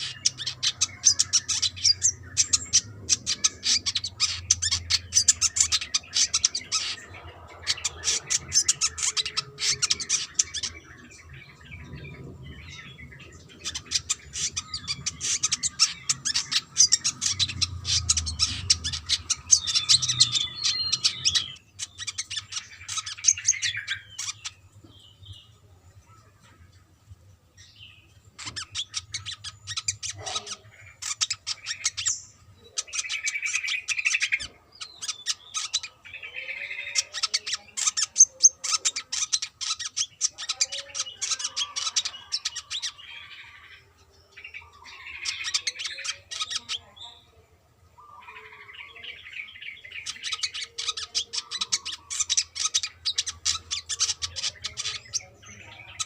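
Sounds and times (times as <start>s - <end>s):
bird twittering and chattering: 0.0s - 56.0s.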